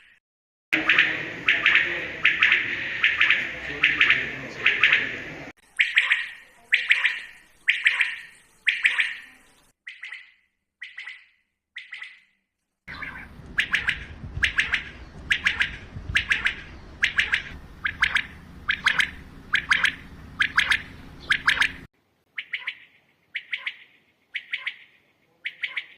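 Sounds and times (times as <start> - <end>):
quail calling: 0.8 - 12.2, 12.9 - 25.9.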